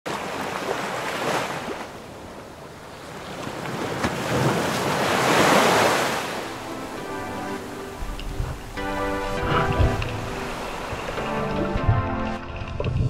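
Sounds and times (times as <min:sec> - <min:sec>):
rushing water: 0:00.1 - 0:13.0.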